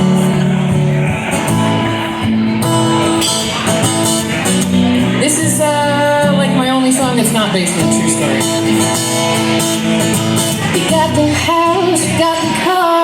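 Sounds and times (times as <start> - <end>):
guitar chords and sliding notes: 0.0 - 13.0
live band playing: 0.0 - 13.0.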